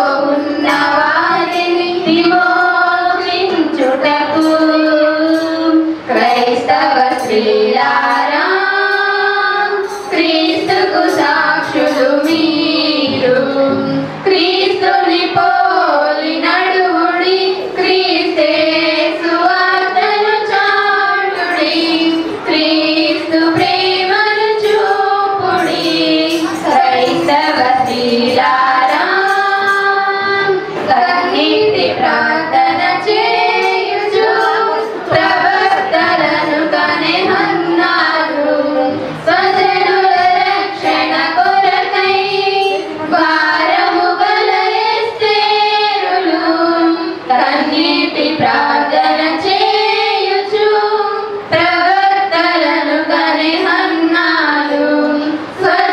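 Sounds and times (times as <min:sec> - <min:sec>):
female voices singing together: 0:00.0 - 0:55.9.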